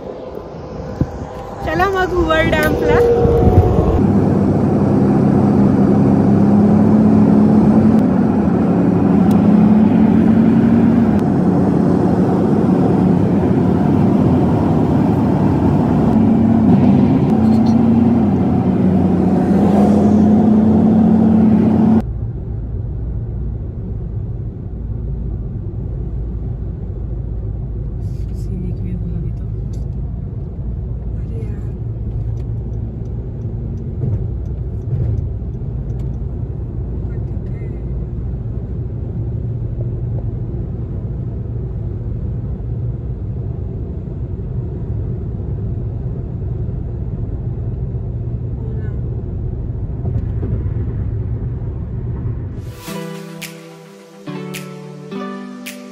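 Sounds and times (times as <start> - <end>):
car engine and road noise: 0.0 - 55.9.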